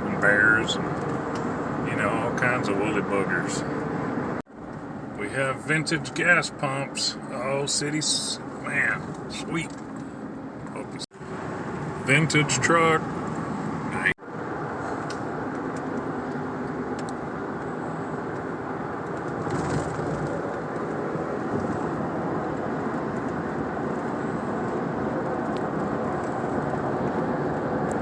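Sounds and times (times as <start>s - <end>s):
vehicle road and engine noise: 0.0s - 28.0s.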